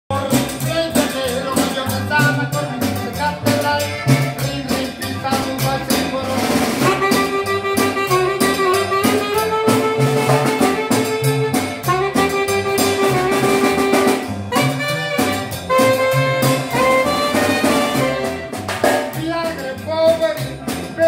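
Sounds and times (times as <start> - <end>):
button accordion: 0.1 - 19.6
snare drum beat: 0.1 - 21.0
upright bass: 0.1 - 21.0
saxophone: 1.8 - 19.2.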